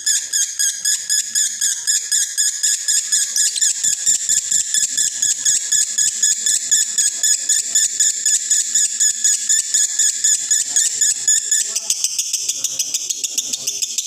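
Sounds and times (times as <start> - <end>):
lovebird chattering song: 0.0 - 14.0.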